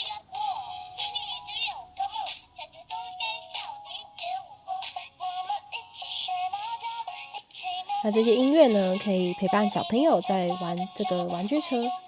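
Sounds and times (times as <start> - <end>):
tinny electronic toy melody: 0.0 - 12.0.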